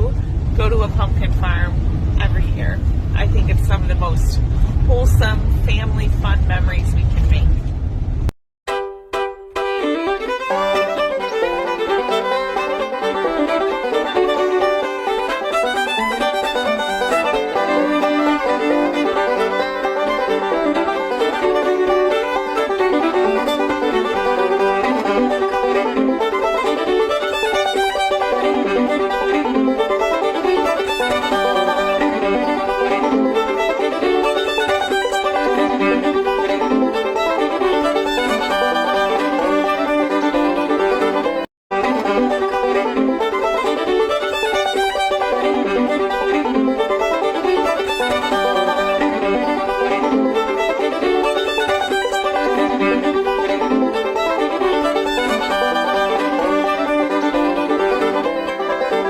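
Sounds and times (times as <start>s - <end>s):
upbeat fiddle music: 0.0s - 7.5s, 8.7s - 59.0s
plucked-string accompaniment: 0.0s - 7.8s, 8.7s - 59.0s.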